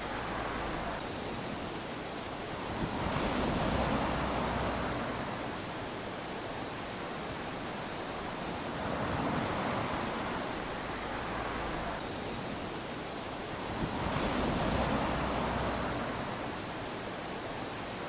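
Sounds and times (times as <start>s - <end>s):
small waves lapping on sand: 0.0s - 18.0s.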